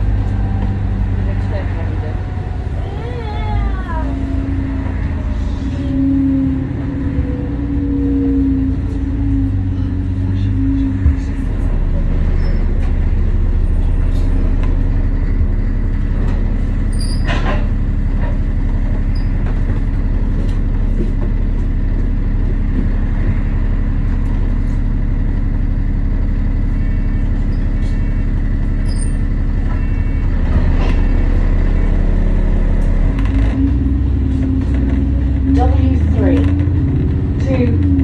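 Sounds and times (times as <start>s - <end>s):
bus engine idling: 0.0s - 38.0s.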